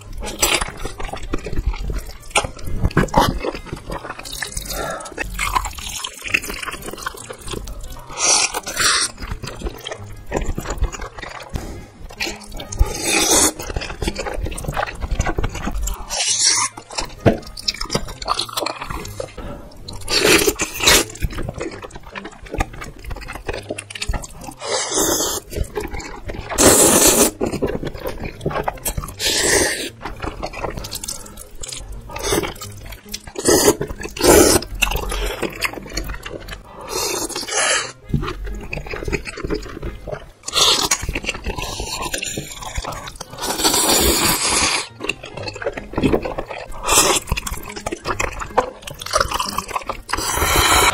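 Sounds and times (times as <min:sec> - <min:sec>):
person slurping noodles: 0:00.0 - 0:10.6, 0:11.3 - 0:50.9.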